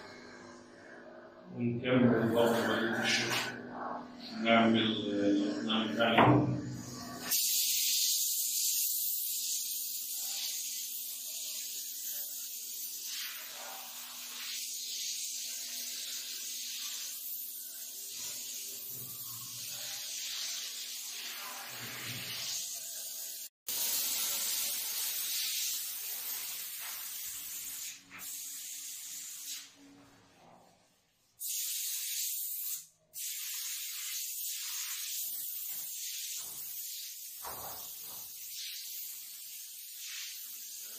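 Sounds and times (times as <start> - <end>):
paint spray gun hissing: 6.2 - 29.8, 31.4 - 40.9.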